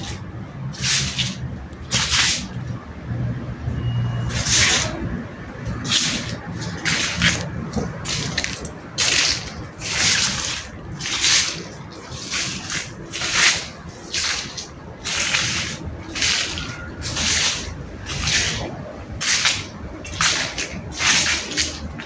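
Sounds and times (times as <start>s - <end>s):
water lapping in swishing surges: 0.0s - 22.0s.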